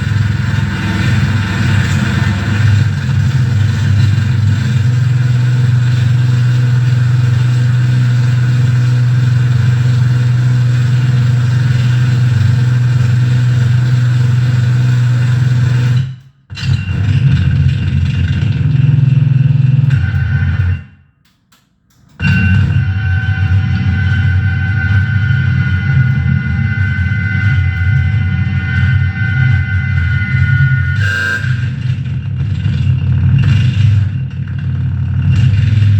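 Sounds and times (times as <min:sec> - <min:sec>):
electronic noise drone: 0:00.0 - 0:21.0, 0:22.2 - 0:35.9.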